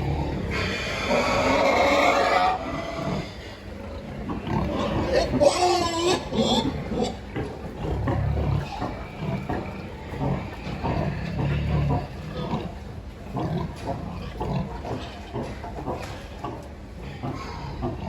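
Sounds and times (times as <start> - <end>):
pigs grunting: 0.0 - 18.0.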